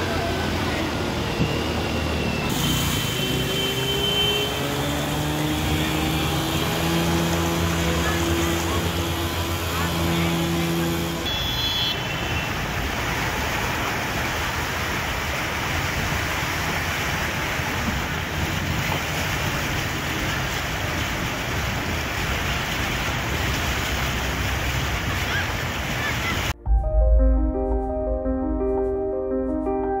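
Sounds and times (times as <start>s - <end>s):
rain rushing: 0.0s - 26.6s
traffic on wet street: 0.0s - 26.6s.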